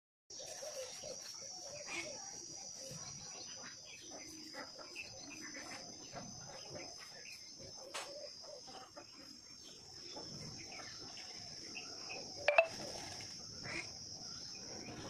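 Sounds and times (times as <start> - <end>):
insects chirring: 0.4 - 15.0.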